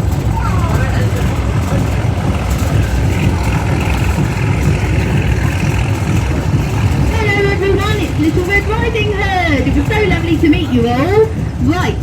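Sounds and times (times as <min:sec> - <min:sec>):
railway carriage wheels rumbling: 0:00.0 - 0:12.0.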